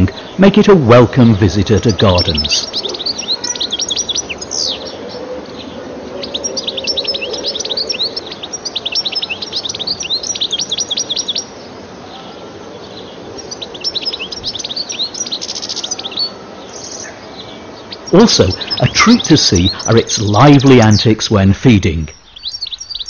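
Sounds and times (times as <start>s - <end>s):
finch singing high twittering notes: 1.6s - 11.7s, 12.8s - 23.0s.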